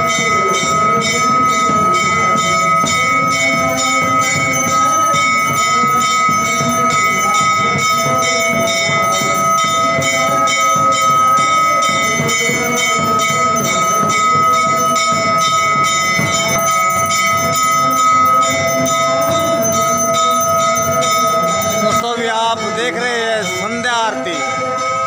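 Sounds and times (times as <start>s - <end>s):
large drum beating: 0.0s - 24.8s
brass bell ringing: 0.0s - 25.0s.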